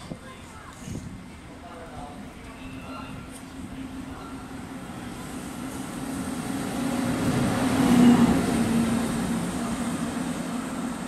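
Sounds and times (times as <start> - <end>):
electric locomotive hum: 1.1 - 11.0.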